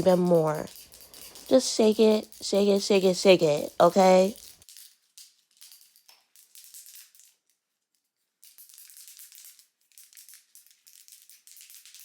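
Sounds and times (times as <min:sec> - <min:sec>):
spray can rattling shake: 0:00.0 - 0:07.4, 0:08.4 - 0:12.0.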